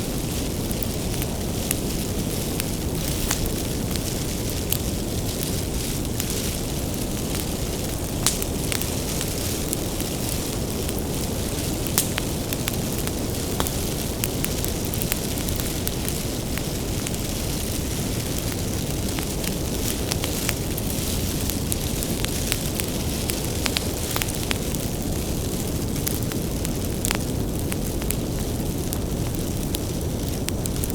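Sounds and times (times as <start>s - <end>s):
fire low rumble: 0.0s - 30.9s
firewood crackling and popping: 0.0s - 30.9s.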